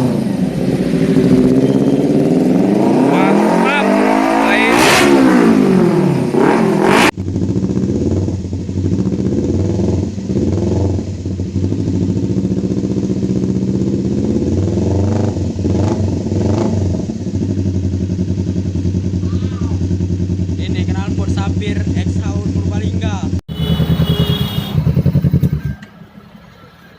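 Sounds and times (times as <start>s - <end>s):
motorcycle engine idling: 0.0s - 3.3s, 7.1s - 26.2s
motorcycle engine revving: 0.0s - 26.2s.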